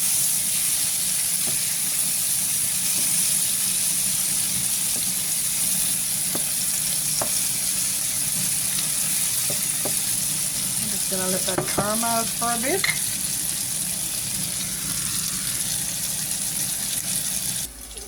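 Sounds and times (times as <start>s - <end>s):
vegetables sizzling in a pan: 0.0s - 17.7s.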